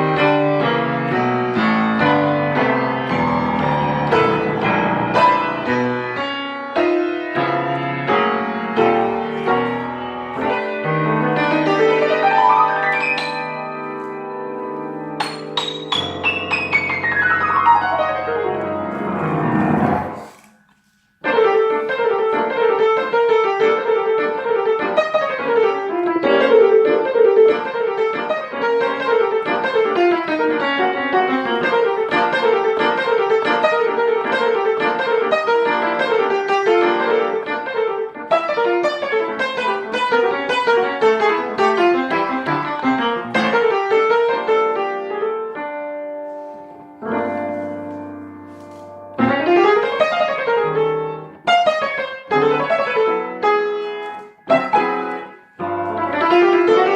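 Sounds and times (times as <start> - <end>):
piano music: 0.0 - 56.9.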